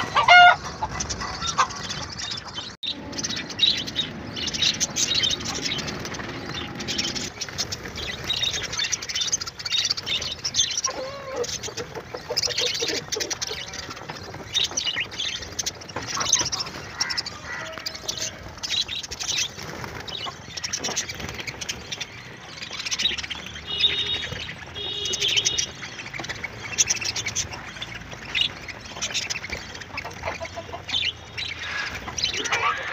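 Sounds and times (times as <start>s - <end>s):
budgerigars chattering: 0.0s - 32.9s.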